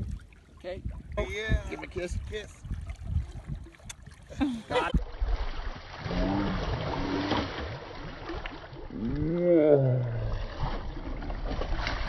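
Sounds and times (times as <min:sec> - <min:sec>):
water and wind noise: 0:00.0 - 0:12.0.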